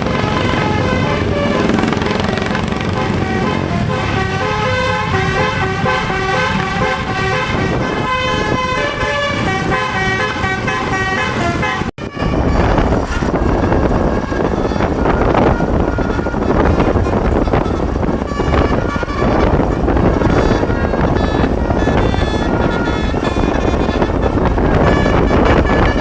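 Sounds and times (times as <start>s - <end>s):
multi-tone air horn tune: 0.0s - 26.0s.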